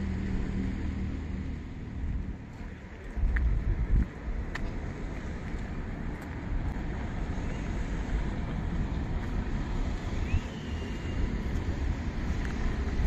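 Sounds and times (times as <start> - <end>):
wind buffeting microphone: 1.9 - 13.0.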